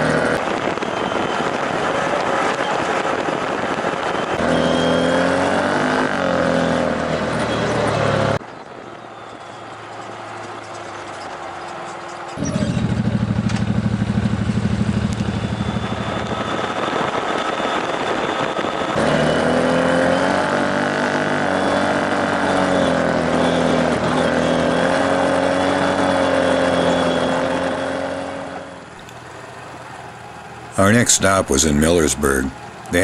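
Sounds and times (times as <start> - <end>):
engine running with lumpy pulse: 0.0 - 17.7, 18.7 - 31.0
engine cruising steadily: 0.0 - 33.0.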